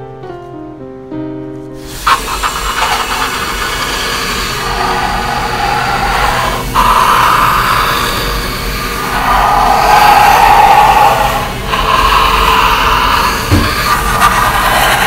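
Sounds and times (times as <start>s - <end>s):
marker scratching on paper: 1.9s - 8.4s, 9.1s - 15.0s.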